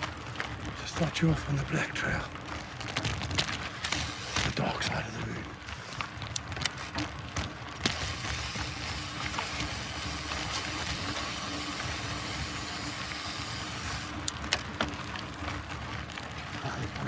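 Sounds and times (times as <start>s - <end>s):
bike tyre noise on dirt: 0.0s - 17.0s.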